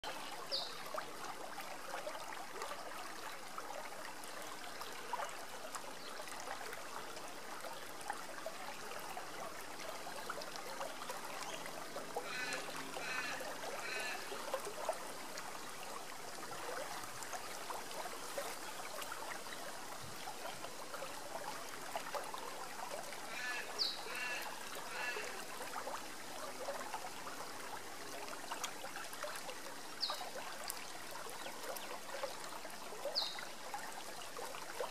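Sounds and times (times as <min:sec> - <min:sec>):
river water babbling over rocks: 0:00.0 - 0:34.9.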